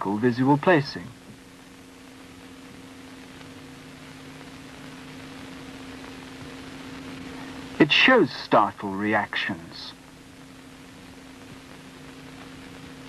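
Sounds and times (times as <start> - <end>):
film soundtrack hiss: 0.0 - 13.0
low electrical hum: 0.0 - 13.0.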